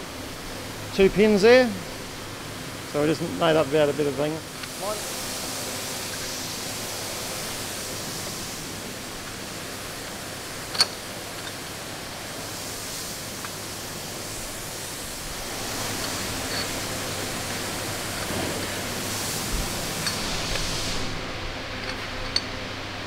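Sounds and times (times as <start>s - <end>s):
workshop background hiss: 0.0s - 23.0s.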